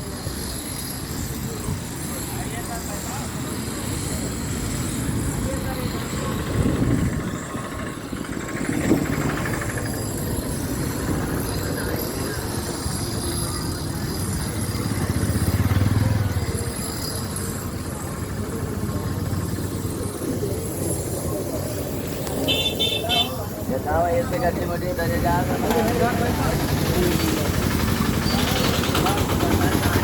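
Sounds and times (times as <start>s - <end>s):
faint voices: 0.0s - 30.0s
traffic engines running: 0.0s - 30.0s.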